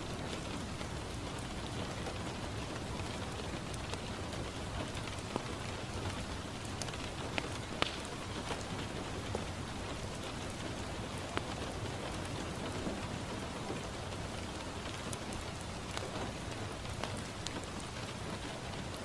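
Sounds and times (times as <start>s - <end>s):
rain on a window pane: 0.0s - 19.0s.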